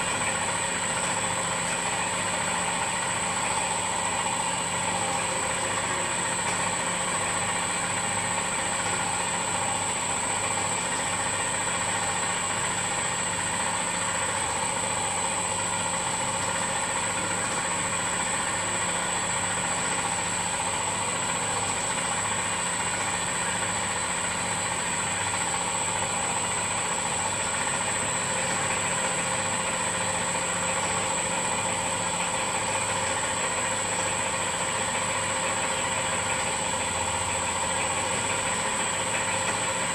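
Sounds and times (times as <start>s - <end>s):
machine hum with high whine: 0.0s - 39.9s.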